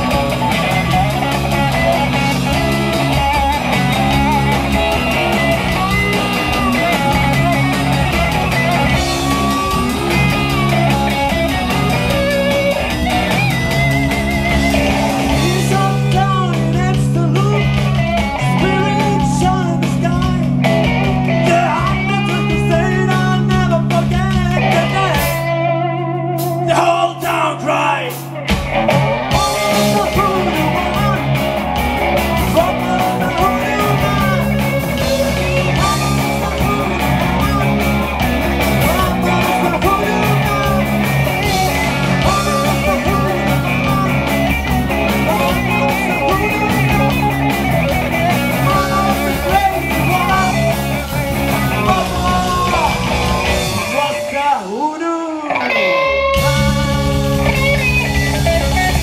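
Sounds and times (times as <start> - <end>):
drums: 0.0 - 59.0
electric guitar lead lines: 0.0 - 59.0
live rock band: 0.0 - 59.0.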